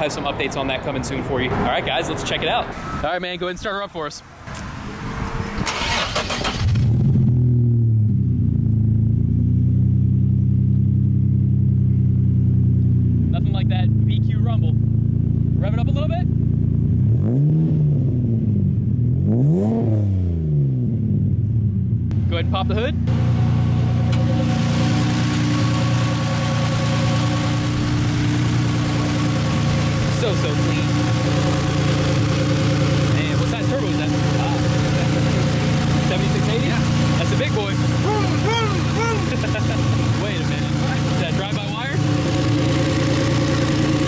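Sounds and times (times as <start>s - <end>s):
car engine starting and idling: 4.4s - 44.0s.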